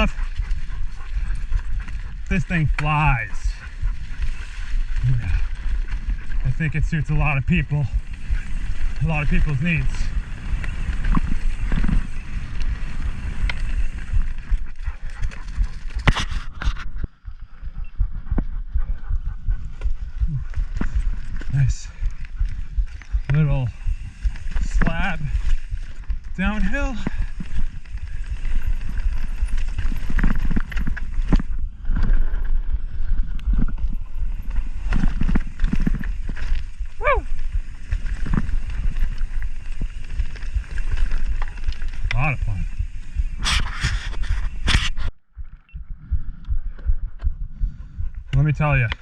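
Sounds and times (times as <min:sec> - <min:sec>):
bike tyre noise on rock: 0:00.0 - 0:45.5
wind: 0:00.0 - 0:49.0.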